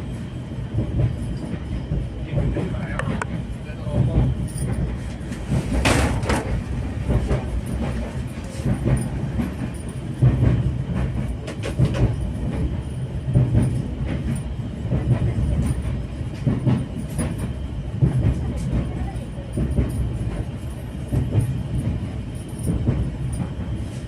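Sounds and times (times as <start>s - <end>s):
train wheels clattering on rails: 0.2s - 24.0s.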